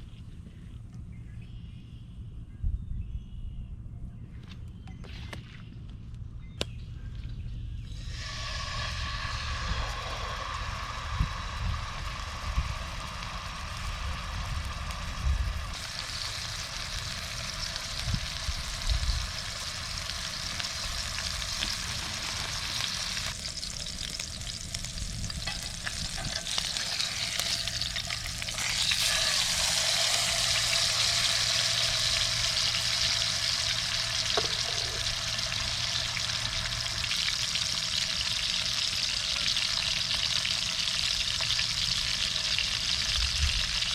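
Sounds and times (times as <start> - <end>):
food sizzling in a pan: 8.0 - 43.9.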